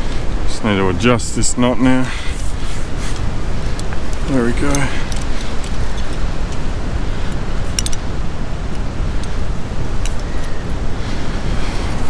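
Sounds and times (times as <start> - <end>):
ocean surf: 0.0 - 12.0
wind rumble on microphone: 0.0 - 12.0.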